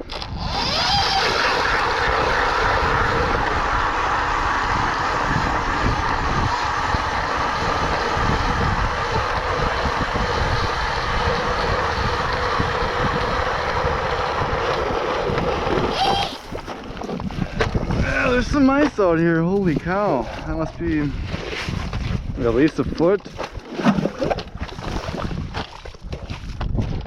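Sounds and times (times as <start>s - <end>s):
power ice auger drilling: 0.0s - 26.3s.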